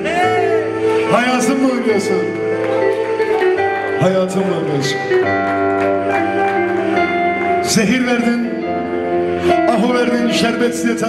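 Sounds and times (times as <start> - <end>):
live band sustained chords: 0.0 - 11.0.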